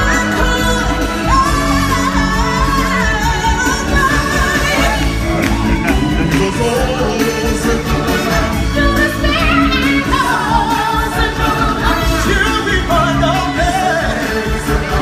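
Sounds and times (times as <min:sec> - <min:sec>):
voices singing over a loud band: 0:00.0 - 0:15.0.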